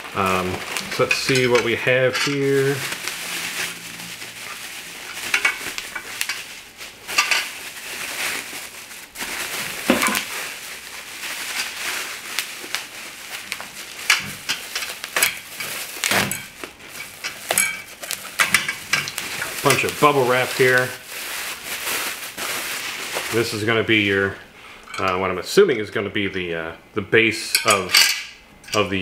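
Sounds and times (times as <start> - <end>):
bubble wrap and bags crinkling: 0.0 - 26.0.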